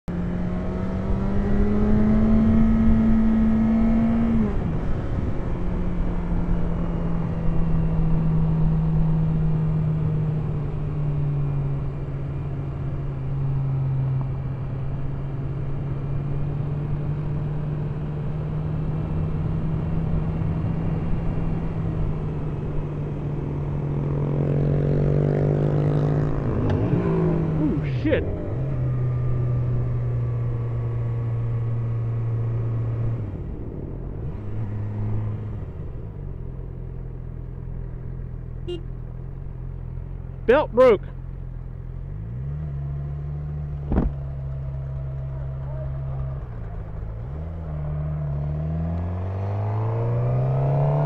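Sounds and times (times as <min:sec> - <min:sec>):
motorcycle engine cruising: 0:00.1 - 0:51.0.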